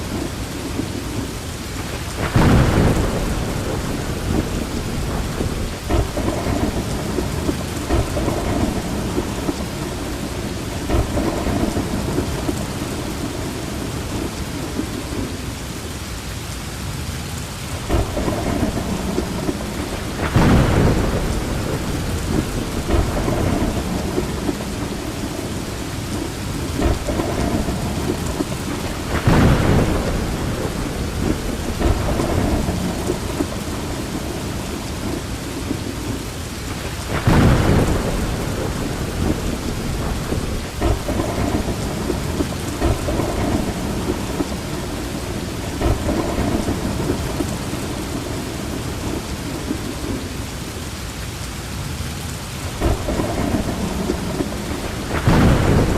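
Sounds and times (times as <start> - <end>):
rolling thunder: 0.0 - 15.4, 17.7 - 50.4, 52.7 - 55.9
heavy rain: 0.0 - 55.9.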